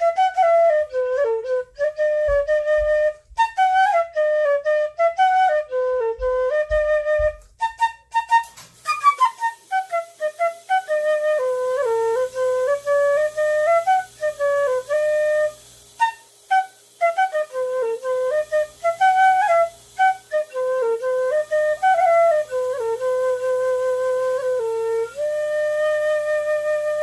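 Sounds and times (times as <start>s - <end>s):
fife melody: 0.0s - 27.0s.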